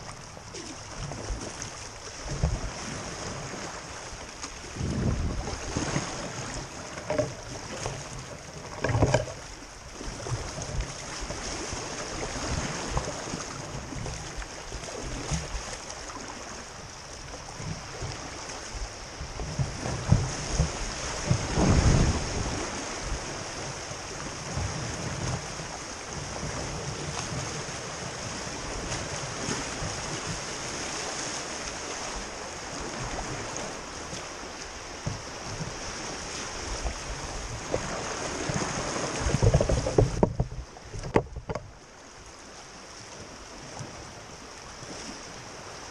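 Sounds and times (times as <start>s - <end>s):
low water bursts: 0.0s - 45.9s
paddle strokes splashing: 0.0s - 45.9s.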